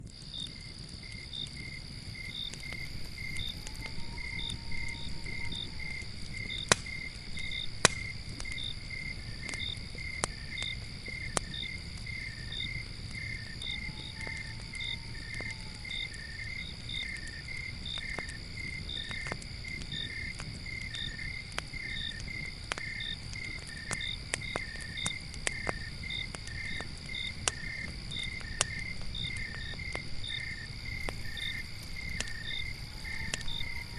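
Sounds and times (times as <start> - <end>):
campfire crackling: 0.0 - 33.9
crickets chirping: 0.0 - 33.9
high insect drone: 0.1 - 33.9.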